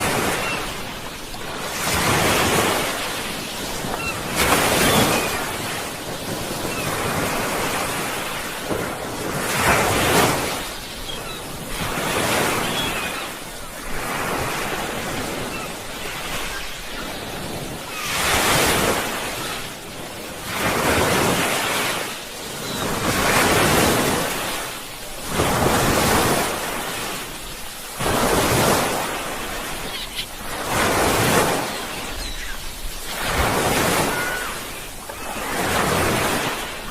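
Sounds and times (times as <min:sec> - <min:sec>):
sea waves breaking on shore: 0:00.0 - 0:36.9.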